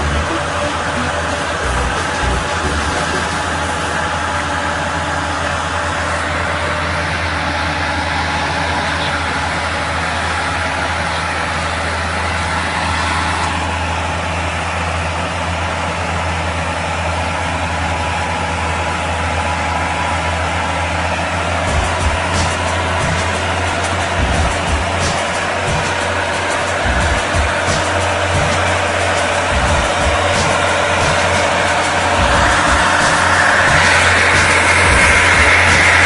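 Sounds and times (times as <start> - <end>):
vehicle engine running steadily: 0.0 - 36.0.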